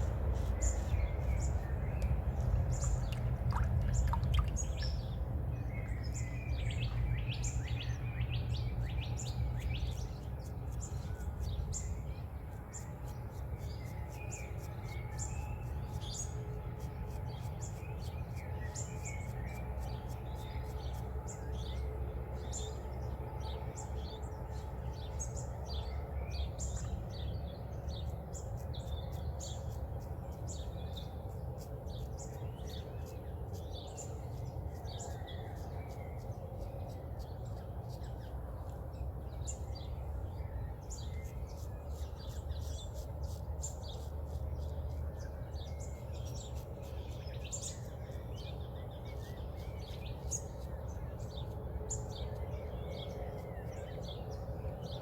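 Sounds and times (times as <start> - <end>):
birds chirping: 0.0 - 55.0
low background rumble: 0.0 - 55.0.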